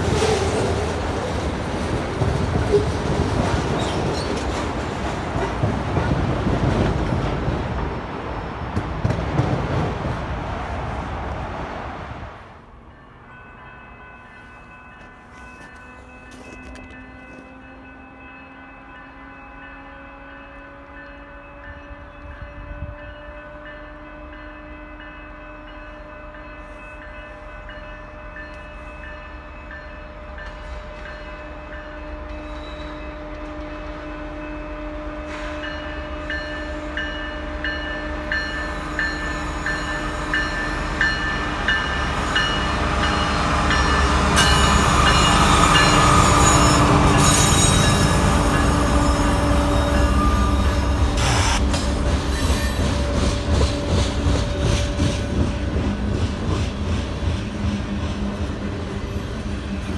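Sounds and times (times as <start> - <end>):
diesel locomotive engines: 0.0 - 59.9.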